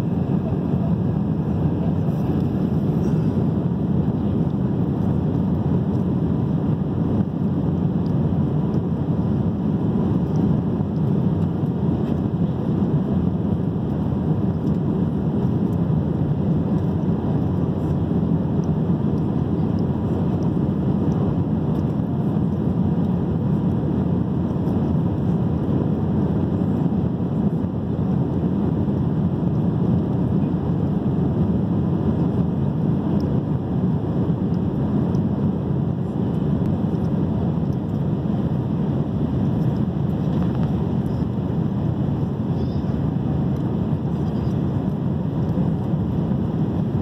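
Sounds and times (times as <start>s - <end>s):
jet engine drone in cabin: 0.0s - 47.0s.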